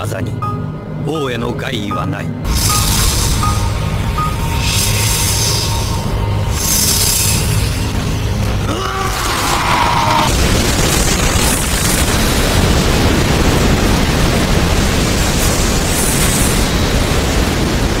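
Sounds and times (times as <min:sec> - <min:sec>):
energy attack rushing rumble: 0:02.3 - 0:18.0.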